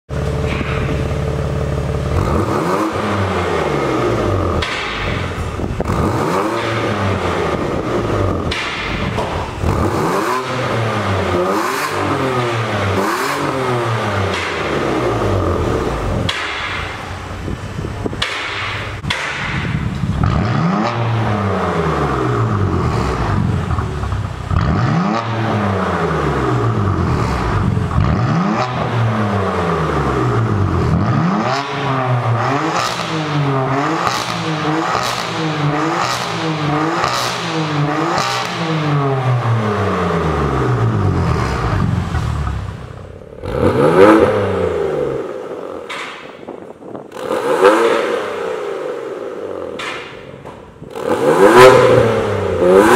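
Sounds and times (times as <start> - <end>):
car engine revving: 0.1 - 52.9.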